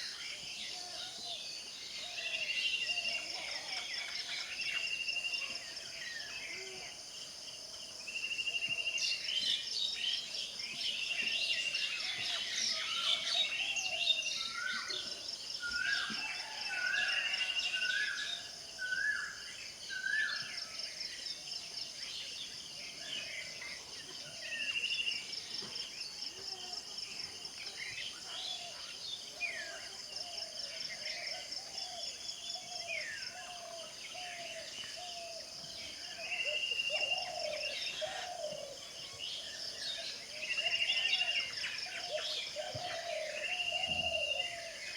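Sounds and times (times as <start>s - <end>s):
crickets droning: 0.0s - 44.9s.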